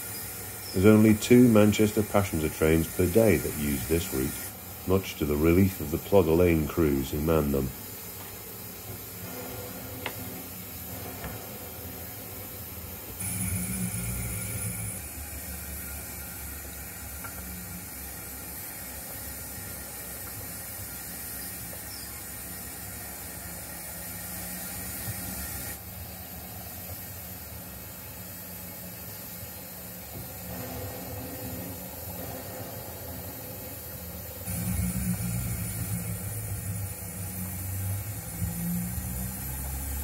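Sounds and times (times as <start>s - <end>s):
rush of steam: 0.0s - 40.0s
steam hissing: 0.0s - 40.0s.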